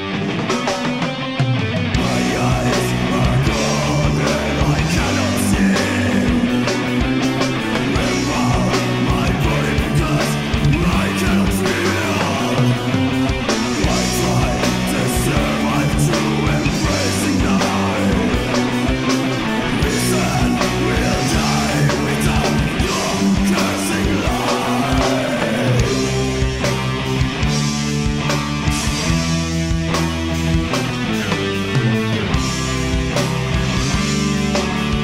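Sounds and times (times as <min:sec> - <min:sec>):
bass and drums: 0:00.0 - 0:35.0
distorted electric guitars: 0:00.0 - 0:35.0
doom metal song: 0:00.0 - 0:35.0.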